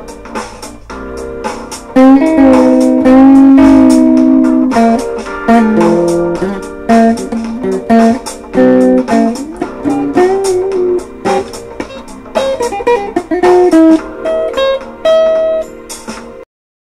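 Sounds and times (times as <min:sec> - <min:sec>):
solo guitar picked notes: 0:02.0 - 0:15.8.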